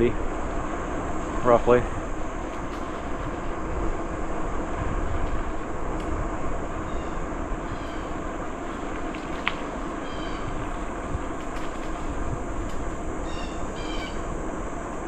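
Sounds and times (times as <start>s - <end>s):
bicycle tyre rumble on trail: 0.0s - 15.0s
wind buffeting microphone: 0.0s - 15.0s.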